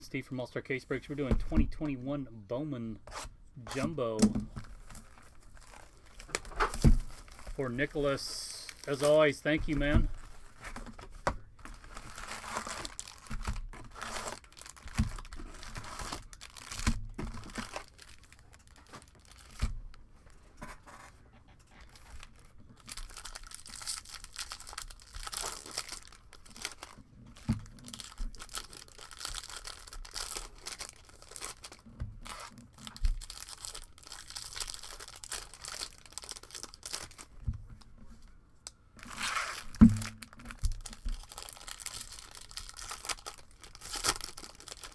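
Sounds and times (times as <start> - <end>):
wrappers tearing and crinkling: 4.6 - 19.8, 21.9 - 37.4, 39.0 - 44.9.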